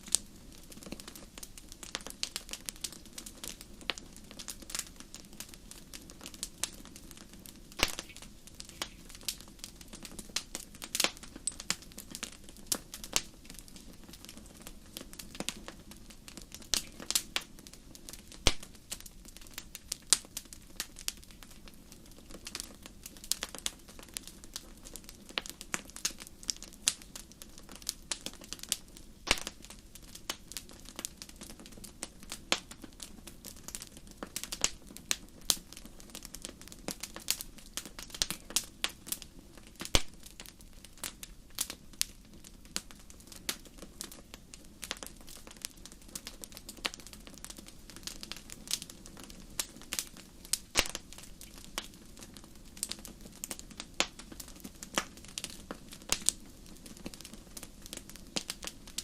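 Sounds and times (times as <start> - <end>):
wood fire popping and snapping: 0.0 - 59.0.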